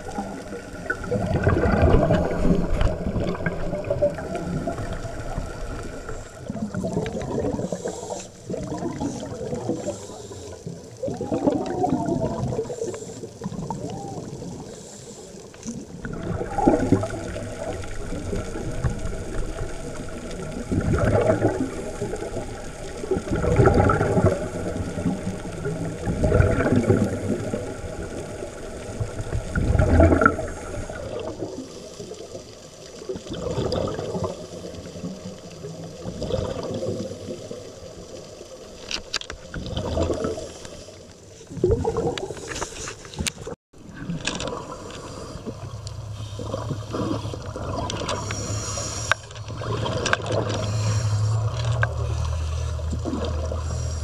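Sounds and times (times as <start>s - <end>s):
regulator bubbles gurgling underwater: 0.0s - 54.0s.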